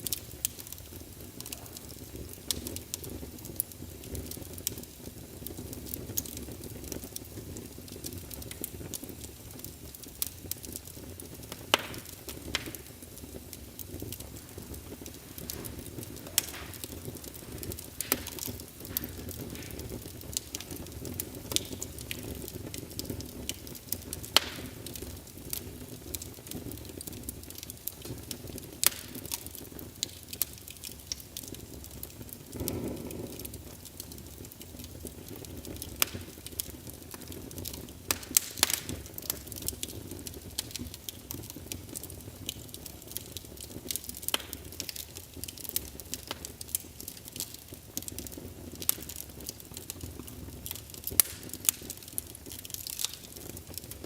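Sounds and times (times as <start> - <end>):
fire flames hissing: 0.0 - 54.0
logs crackling and popping: 0.0 - 54.0.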